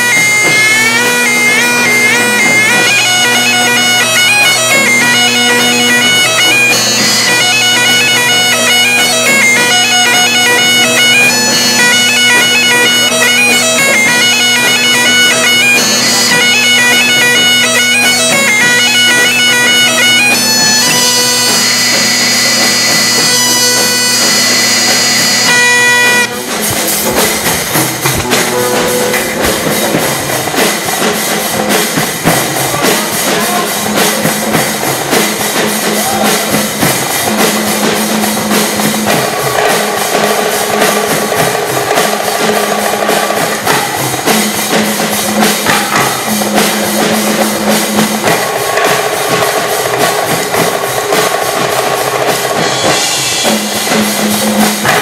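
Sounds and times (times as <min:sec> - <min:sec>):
bagpipes playing over drones: 0:00.0 - 0:55.0
drums: 0:00.0 - 0:55.0.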